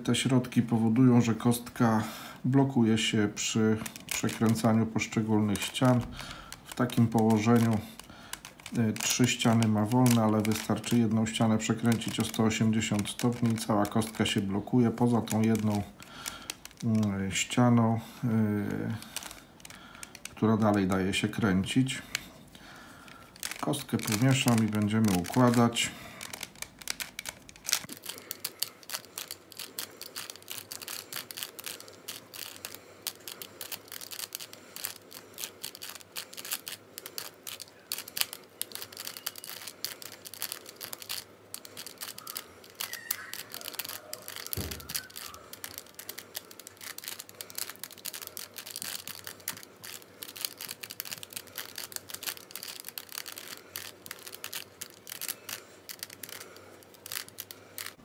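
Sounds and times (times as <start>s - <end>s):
puzzle cube clicking as twisted: 3.3s - 58.0s.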